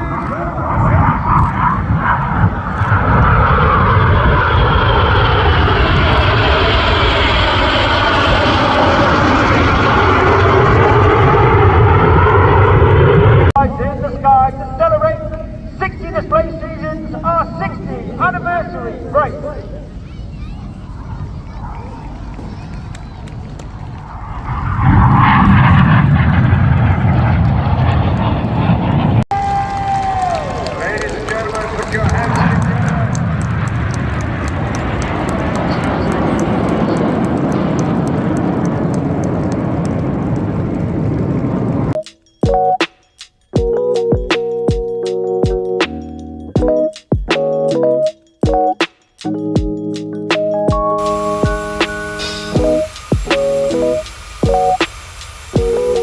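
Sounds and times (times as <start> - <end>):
aircraft engine rush with whine: 0.0 - 42.4, 50.9 - 56.0.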